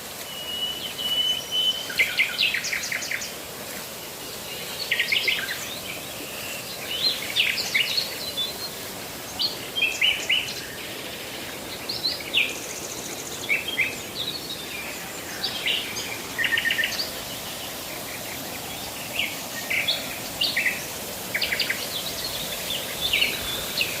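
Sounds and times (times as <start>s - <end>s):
steady outdoor hiss: 0.0s - 24.0s
small birds chirping: 0.3s - 24.0s.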